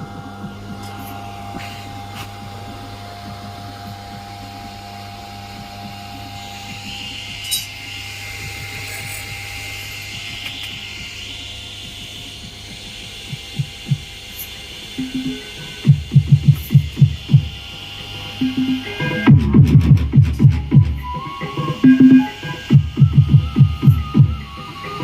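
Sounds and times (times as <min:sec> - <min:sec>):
amplifier mains hum: 0:00.0 - 0:25.0
high whine: 0:00.0 - 0:25.0.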